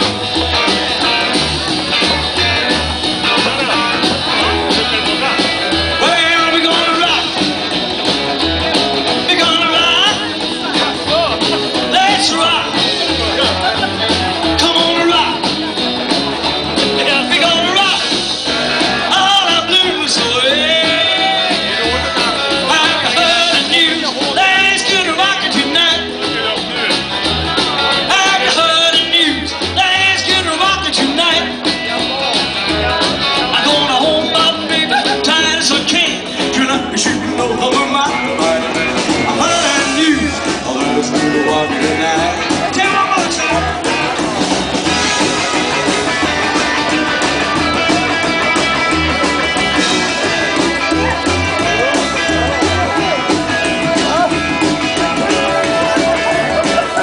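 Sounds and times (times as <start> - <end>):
acoustic rhythm guitar: 0.0 - 57.0
electric guitar melody: 0.0 - 57.0
upright bass: 0.0 - 57.0.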